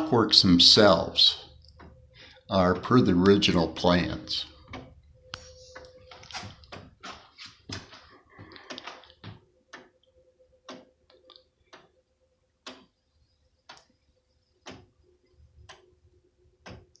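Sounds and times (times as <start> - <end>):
pendulum wall clock ticking: 0.0 - 17.0.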